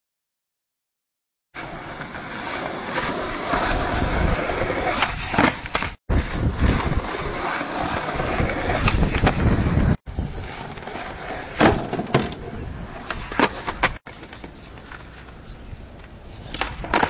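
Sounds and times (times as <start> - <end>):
skateboard wheels rolling: 1.6 - 17.0.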